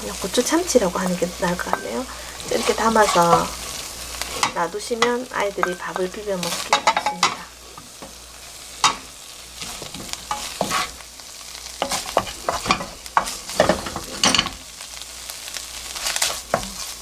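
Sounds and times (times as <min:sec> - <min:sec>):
faint frying sizzle: 0:00.0 - 0:17.0
wooden spatula scraping a wok: 0:00.3 - 0:14.6, 0:15.5 - 0:17.0.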